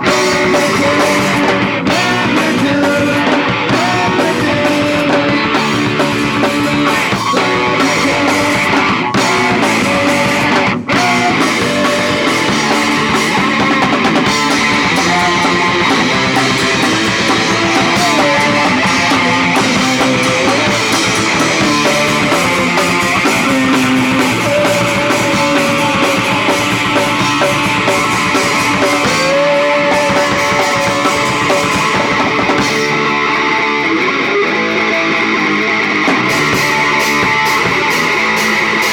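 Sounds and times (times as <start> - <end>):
electric guitar: 0.0 - 38.9
punk rock band playing: 0.0 - 38.9.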